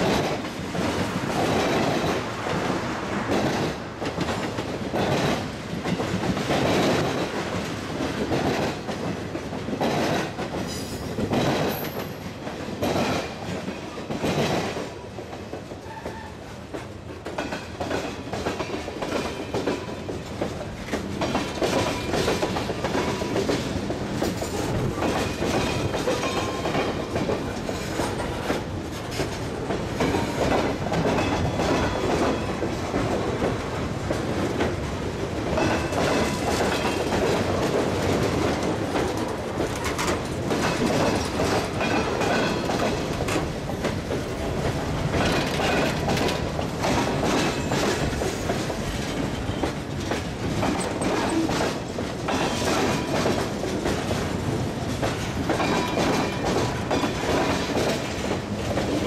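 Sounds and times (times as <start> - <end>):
steady train rumble: 0.0 - 59.0
train wheels clattering over joints: 0.0 - 59.0.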